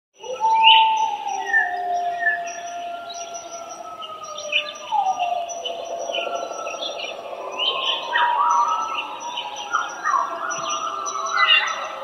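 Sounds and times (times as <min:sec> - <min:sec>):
coyotes howling and yipping: 0:00.2 - 0:12.0.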